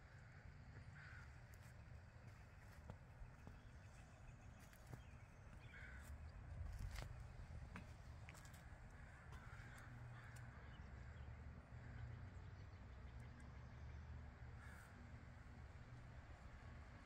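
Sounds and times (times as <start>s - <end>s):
distant bird calls: 0.0s - 15.3s.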